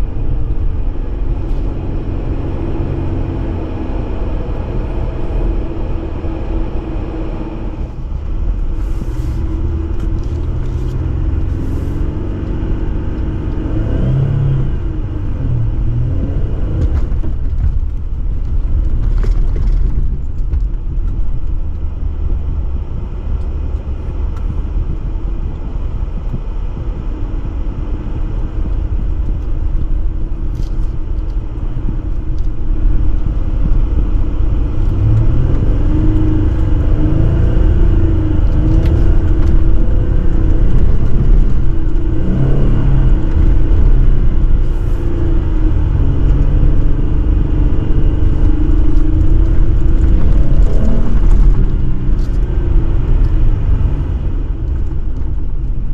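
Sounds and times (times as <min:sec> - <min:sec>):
car engine rumbling: 0:00.0 - 0:55.9.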